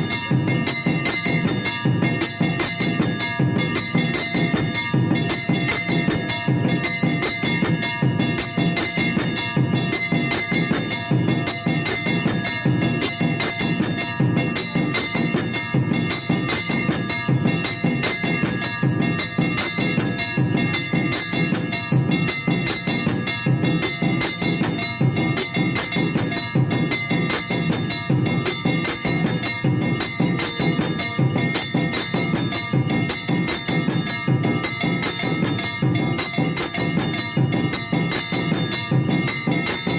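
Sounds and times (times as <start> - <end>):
fast drum beat: 0.0 - 39.9
temple bells ringing: 0.0 - 39.9.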